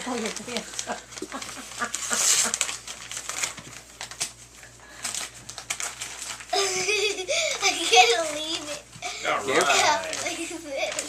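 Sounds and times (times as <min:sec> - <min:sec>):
wrapping paper crinkling: 0:00.0 - 0:11.0.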